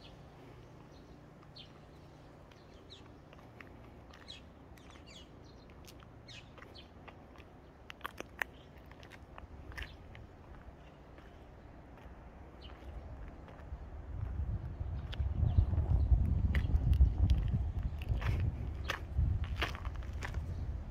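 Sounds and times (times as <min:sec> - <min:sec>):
small birds chirping: 0:00.0 - 0:20.8.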